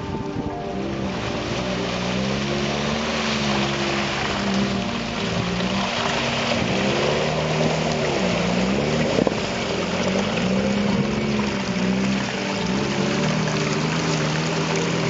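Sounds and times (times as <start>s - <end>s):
car engine working hard: 0.0s - 15.0s.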